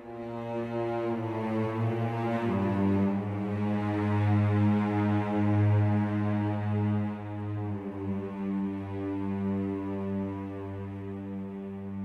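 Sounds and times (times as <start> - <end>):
cello-like string drone: 0.0 - 12.0.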